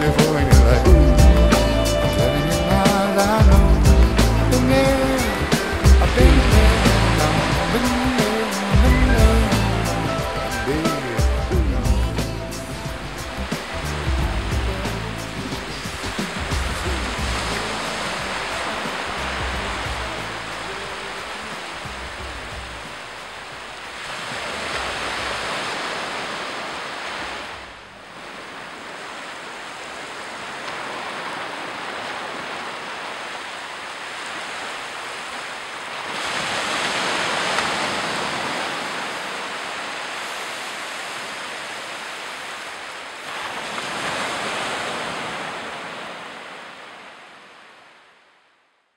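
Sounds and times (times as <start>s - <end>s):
small waves washing onto beach: 0.0s - 48.5s.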